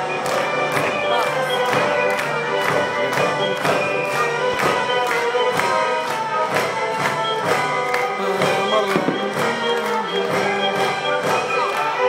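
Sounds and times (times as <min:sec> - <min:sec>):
orchestra playing upbeat piece: 0:00.0 - 0:12.0
steady percussion beat: 0:00.0 - 0:12.0.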